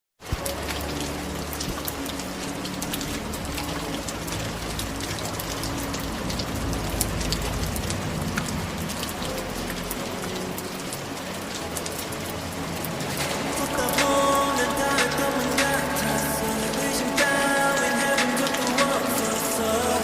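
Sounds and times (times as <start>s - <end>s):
steady rain: 0.2s - 20.0s.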